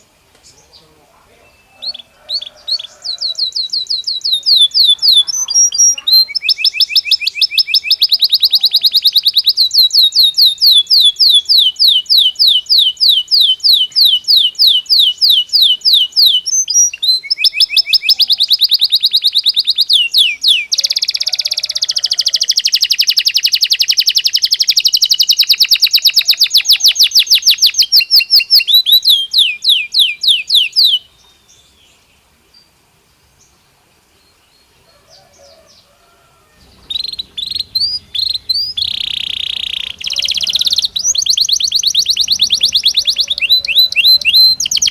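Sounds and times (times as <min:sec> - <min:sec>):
canary singing fast trills: 0:00.0 - 0:44.9.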